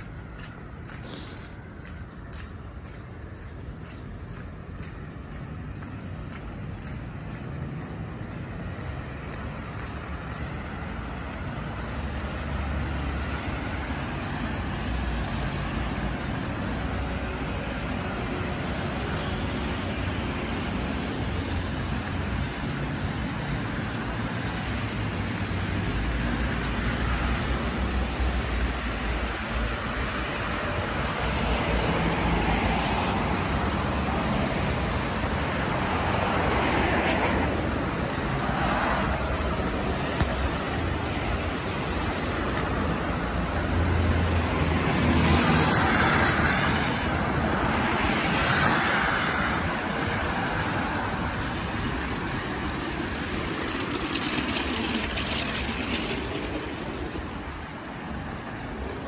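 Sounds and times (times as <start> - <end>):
city road traffic: 0.0 - 59.0.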